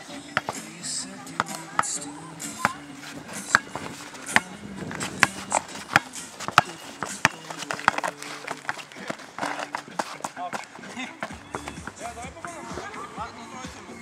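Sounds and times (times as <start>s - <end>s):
basketball bouncing on plastic court: 0.0s - 13.4s.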